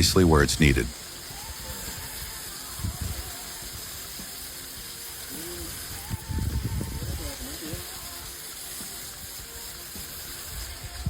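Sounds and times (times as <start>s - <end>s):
irrigation water spraying: 0.0s - 11.0s.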